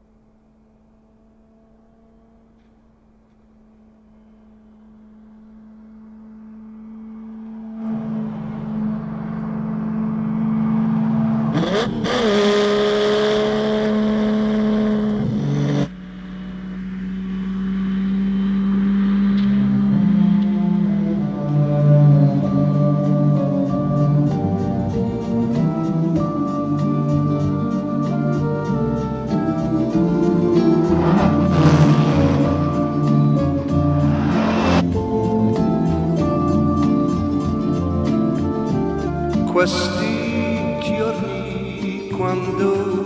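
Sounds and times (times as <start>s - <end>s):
sports car engine at speed: 0.0s - 39.4s.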